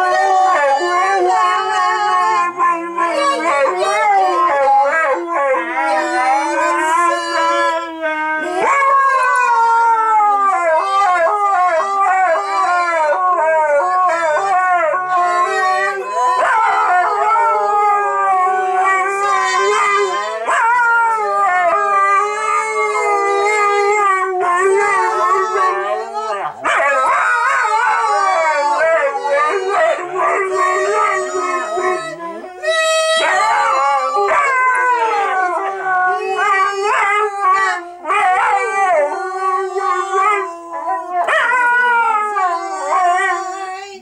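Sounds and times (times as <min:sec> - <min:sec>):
dogs howling: 0:00.0 - 0:44.0.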